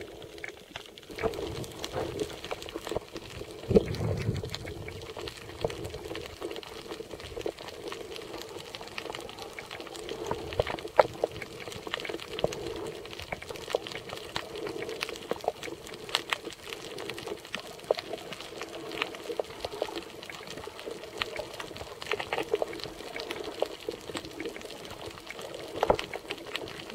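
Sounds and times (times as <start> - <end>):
underwater clicks and crackles: 0.0 - 26.9
underwater watery noise: 0.0 - 26.9.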